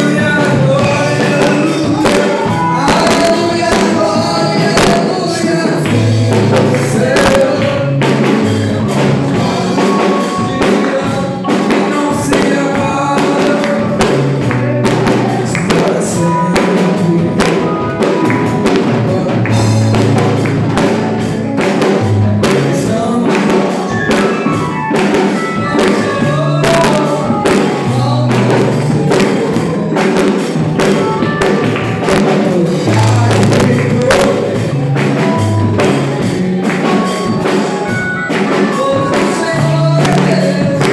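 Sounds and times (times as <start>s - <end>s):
live gospel music with singing: 0.0s - 40.9s.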